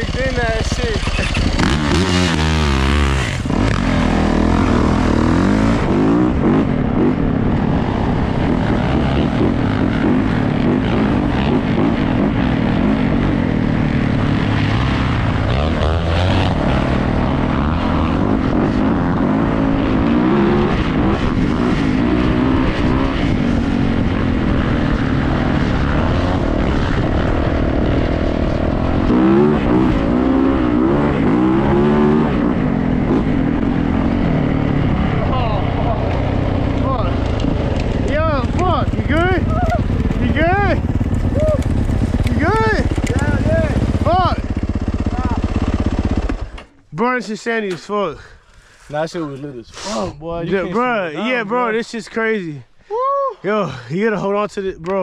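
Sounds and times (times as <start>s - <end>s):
wind rush: 0.0s - 45.3s
dirt bike engine running hard: 0.0s - 46.8s.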